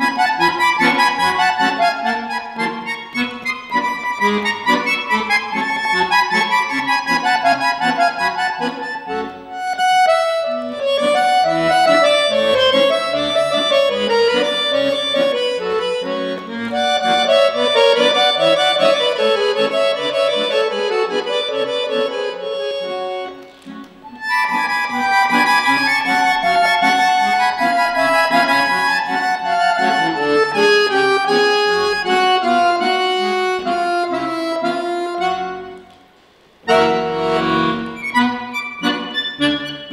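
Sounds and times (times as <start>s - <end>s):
piano accordion playing fast runs: 0.0s - 35.9s, 36.6s - 39.9s.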